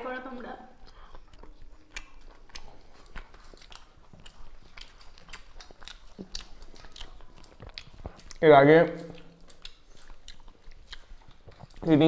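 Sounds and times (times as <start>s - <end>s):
wet chewing and lip smacks: 0.2s - 12.0s.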